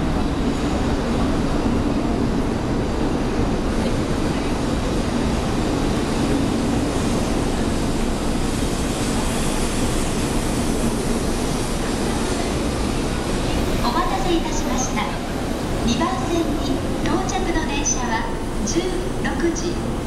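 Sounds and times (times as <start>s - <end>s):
train wheels and air rushing: 0.0s - 20.0s.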